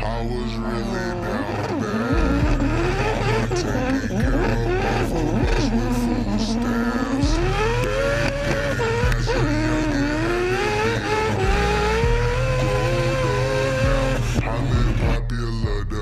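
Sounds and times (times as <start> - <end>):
rotary engine revving: 0.0 - 15.2.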